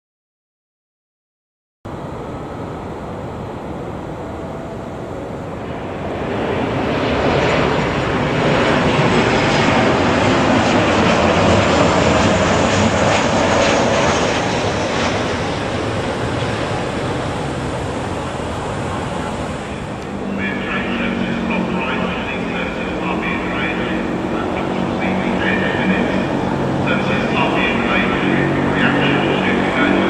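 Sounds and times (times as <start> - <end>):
jet airliner passing overhead: 1.9 - 30.0.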